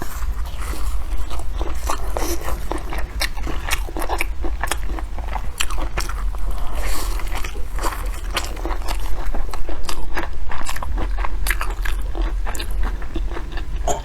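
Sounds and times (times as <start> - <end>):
crunchy fried food chewing: 0.0 - 14.0.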